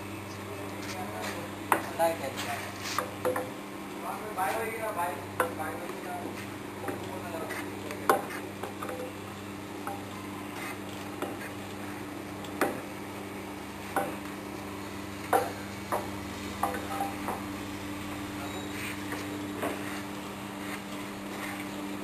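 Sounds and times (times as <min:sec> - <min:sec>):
machine electric hum: 0:00.0 - 0:22.0.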